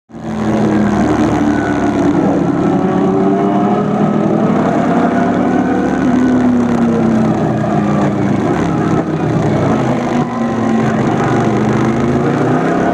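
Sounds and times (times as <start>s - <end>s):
motorcycle engine running: 0.1s - 12.9s.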